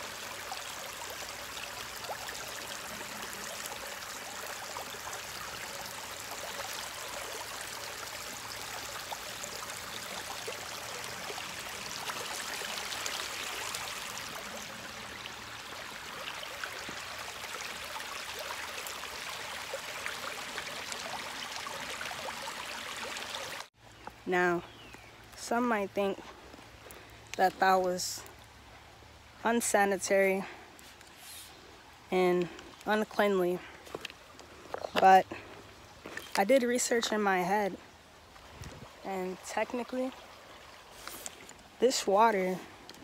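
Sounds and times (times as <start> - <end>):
stream water running over rocks: 0.0 - 43.0.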